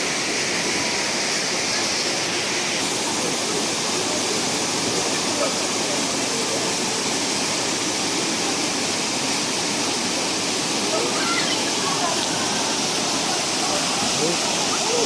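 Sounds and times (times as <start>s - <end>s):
stream water rushing over rocks: 0.0s - 15.0s.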